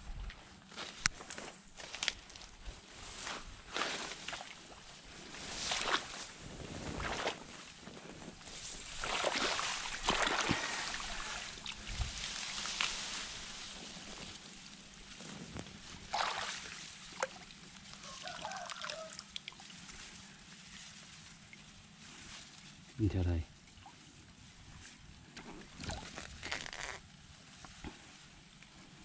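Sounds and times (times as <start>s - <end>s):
grass rustling: 0.4s - 29.0s
pond water splashing and sloshing: 0.8s - 28.8s.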